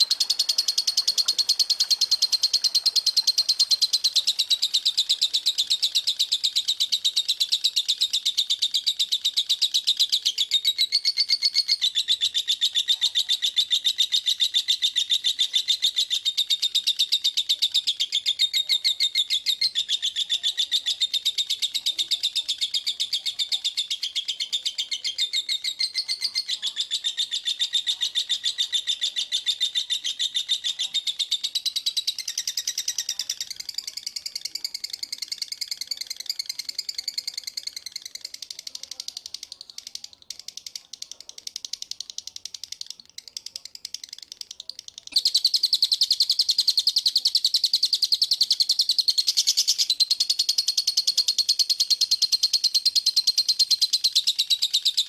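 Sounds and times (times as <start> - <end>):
songbird rapid chirping song: 0.0 - 55.0.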